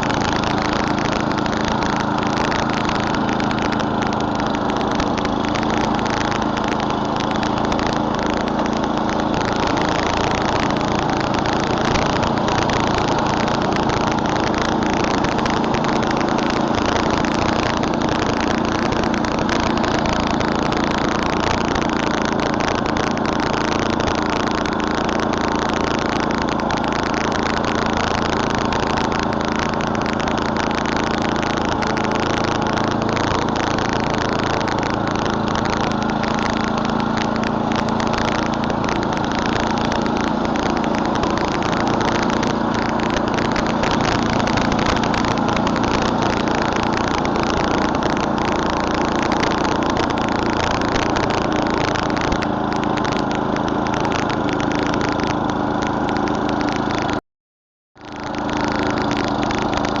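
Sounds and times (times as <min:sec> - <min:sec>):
snowblower engine running: 0:00.0 - 0:57.2, 0:58.0 - 1:00.0.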